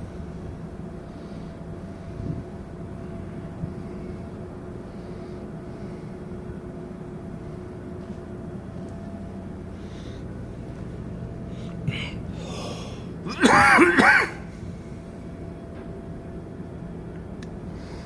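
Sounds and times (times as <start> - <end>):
machinery hum with tones: 0.0 - 18.0.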